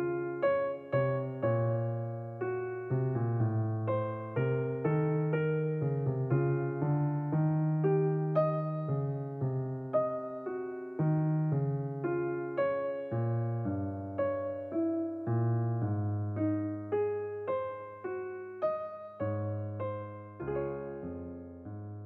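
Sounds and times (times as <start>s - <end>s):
calm electric piano melody: 0.0s - 22.0s.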